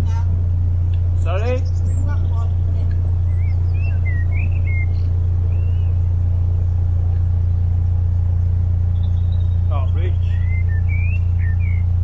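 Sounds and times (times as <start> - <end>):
boat engine idling: 0.0 - 12.0
bird chirping: 1.0 - 12.0.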